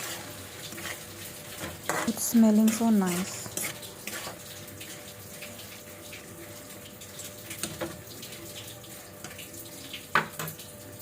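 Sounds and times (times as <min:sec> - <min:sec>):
liquid bubbling in a pan: 0:00.0 - 0:11.0.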